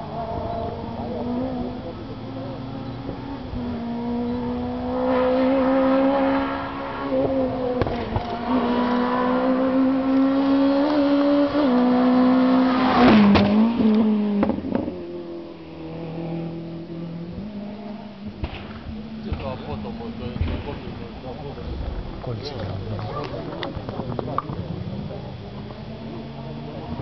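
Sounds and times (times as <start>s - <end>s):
rally car engine accelerating: 0.0s - 27.0s.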